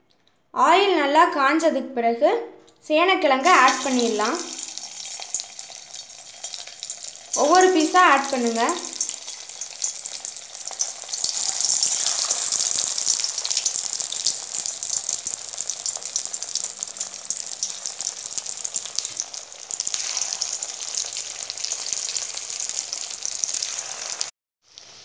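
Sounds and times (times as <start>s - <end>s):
food deep-frying in oil: 3.4s - 25.0s.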